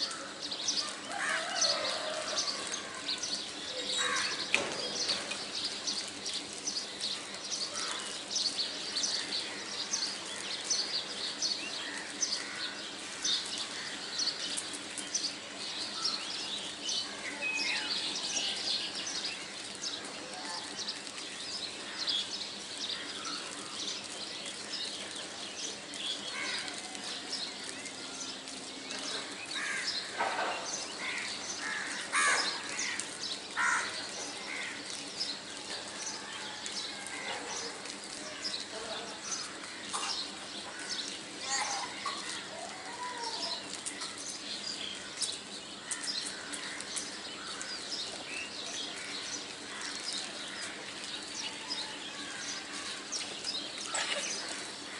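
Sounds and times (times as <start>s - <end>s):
birds chirping and calling: 0.0s - 54.9s
harsh bird calls: 0.0s - 54.9s.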